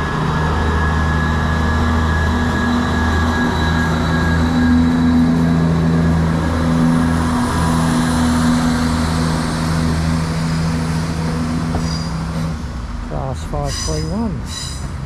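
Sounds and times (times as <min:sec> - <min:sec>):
train diesel engine humming: 0:00.0 - 0:15.0.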